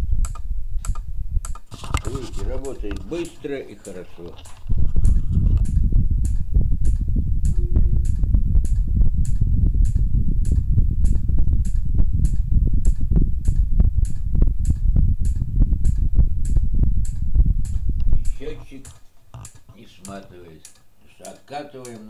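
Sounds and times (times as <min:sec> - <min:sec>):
electric fan rumbling: 0:00.0 - 0:22.0.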